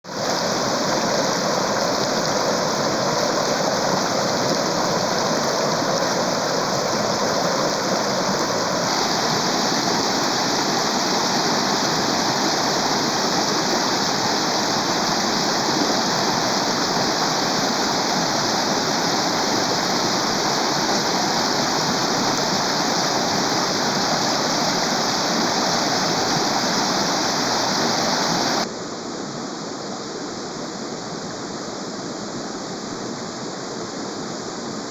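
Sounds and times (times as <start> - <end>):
rushing water roar: 0.0 - 28.7.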